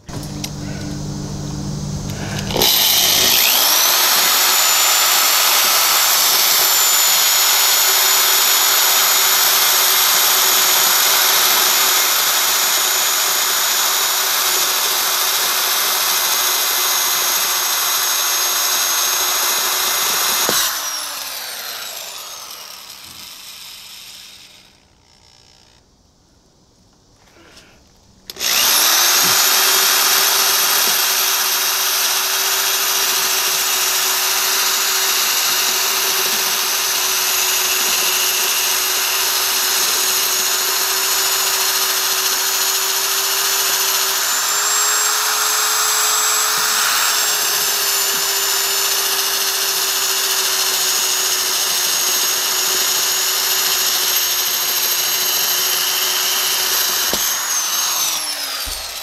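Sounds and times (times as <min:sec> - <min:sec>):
electric drill grinding into wall: 0:00.0 - 0:01.1, 0:01.8 - 0:25.9, 0:28.3 - 0:59.0.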